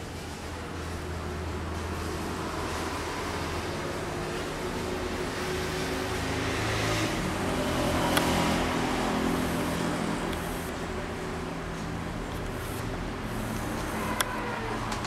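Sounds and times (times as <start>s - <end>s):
background traffic rumble: 0.0s - 15.0s.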